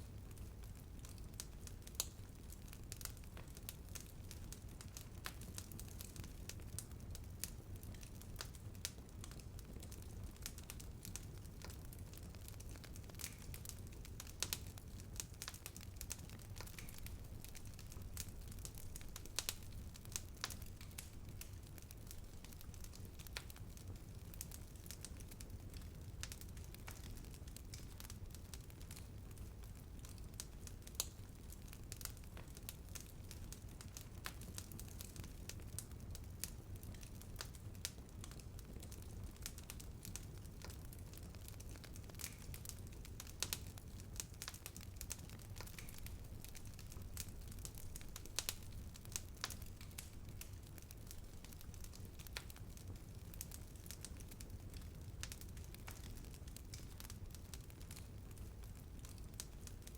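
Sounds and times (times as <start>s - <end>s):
fire popping and crackling: 0.0s - 59.9s
fire flames rumbling: 0.1s - 59.9s.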